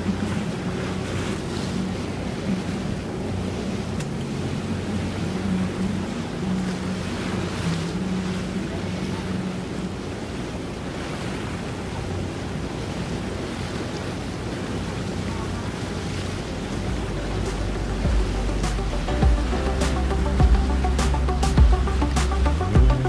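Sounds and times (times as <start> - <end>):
boat engine hum: 0.0 - 23.0.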